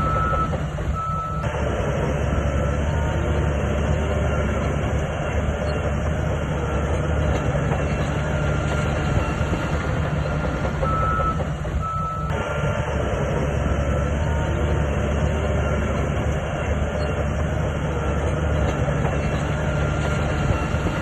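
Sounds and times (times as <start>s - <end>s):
bulldozer diesel engine running: 0.0s - 21.0s
steel tracks clanking and squeaking: 0.0s - 21.0s.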